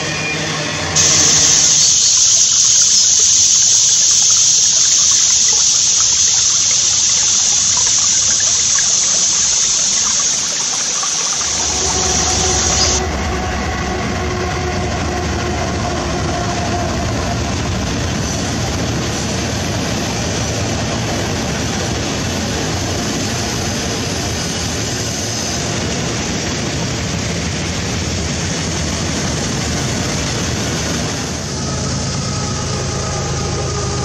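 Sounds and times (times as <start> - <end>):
locomotive engine rumbling: 0.0 - 34.0
steady high hiss: 0.0 - 34.0.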